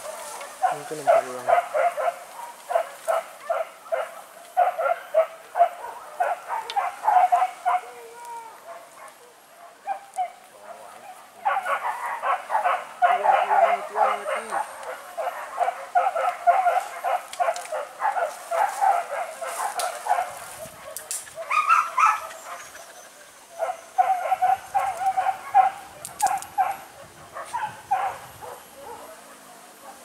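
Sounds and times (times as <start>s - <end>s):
dogs barking: 0.0s - 30.0s.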